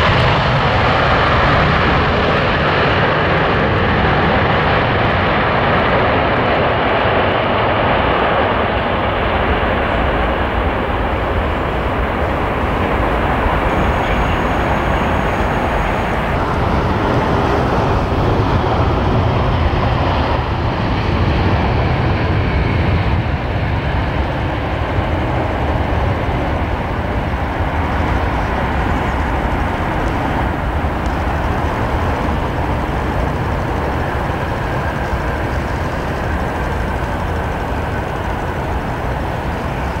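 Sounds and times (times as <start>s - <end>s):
jet engines running down: 0.0s - 40.0s.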